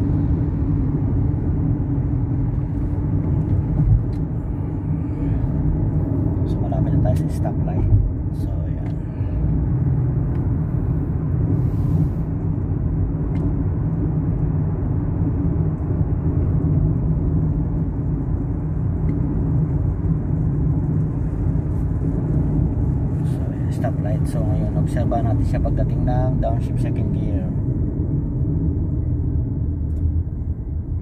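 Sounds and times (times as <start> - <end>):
car engine and tyre rumble: 0.0 - 31.0.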